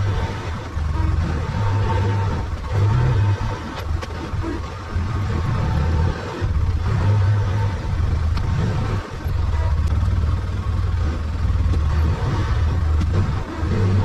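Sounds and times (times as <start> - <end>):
utility vehicle engine droning: 0.0 - 14.0.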